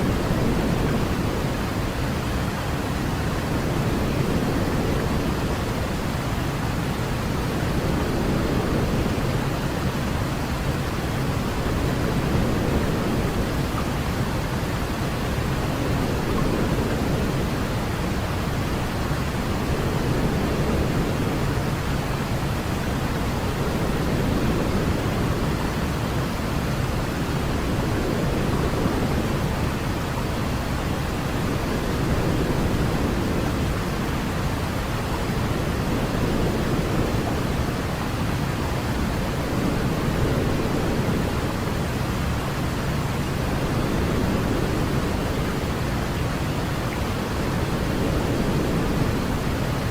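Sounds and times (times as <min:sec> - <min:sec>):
deep hiss of pink noise: 0:00.0 - 0:49.9.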